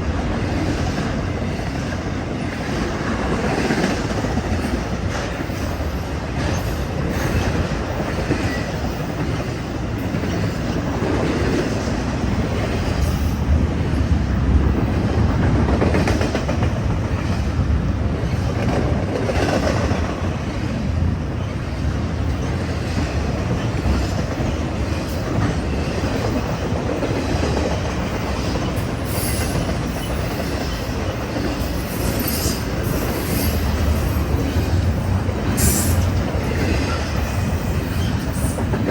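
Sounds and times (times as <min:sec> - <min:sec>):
train wheels running on rail: 0:00.0 - 0:38.9.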